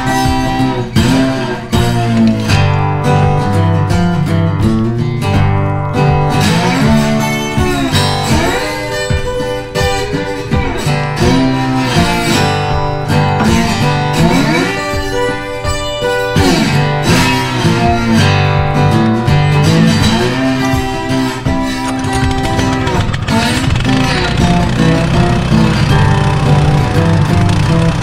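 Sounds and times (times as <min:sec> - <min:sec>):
strummed acoustic guitar music: 0:00.0 - 0:28.0.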